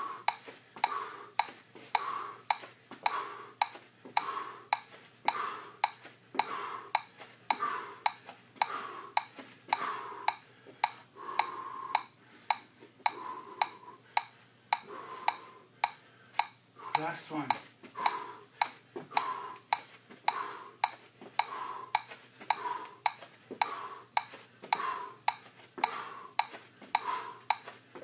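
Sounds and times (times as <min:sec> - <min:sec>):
soft background noise: 0:00.0 - 0:28.0.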